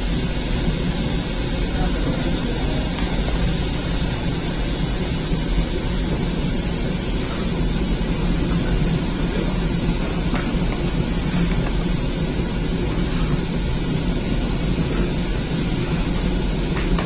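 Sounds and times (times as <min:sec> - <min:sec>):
bread oven roaring: 0:00.0 - 0:17.0.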